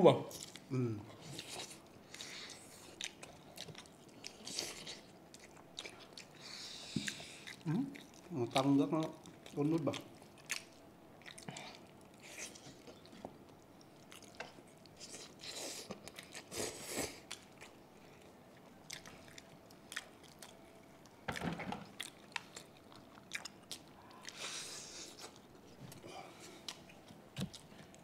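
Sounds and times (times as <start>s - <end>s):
people chewing meat: 0.3s - 28.0s.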